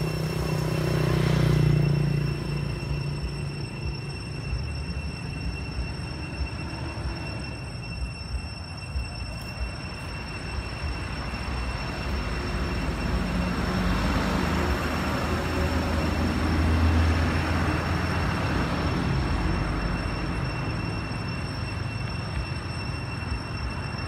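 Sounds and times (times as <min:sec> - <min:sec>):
passing engine rumble: 0:00.0 - 0:24.0
steady high-pitched whine: 0:00.0 - 0:24.0.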